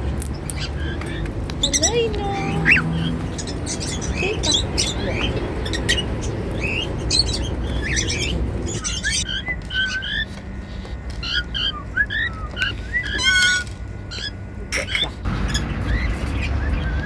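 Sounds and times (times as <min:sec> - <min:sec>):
cockatiels chirping and whistling: 0:00.4 - 0:17.0.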